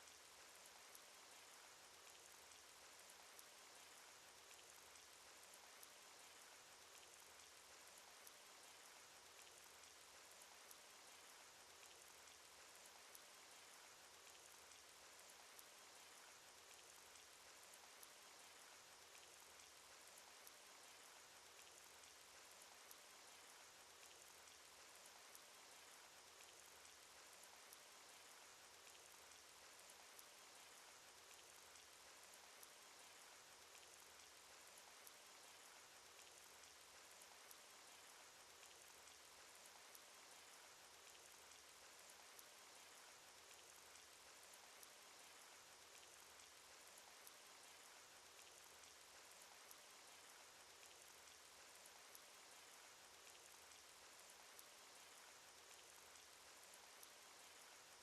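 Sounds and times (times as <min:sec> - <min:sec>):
faint hiss of falling rain: 0:00.0 - 0:58.0
raindrop ticks: 0:00.0 - 0:58.0.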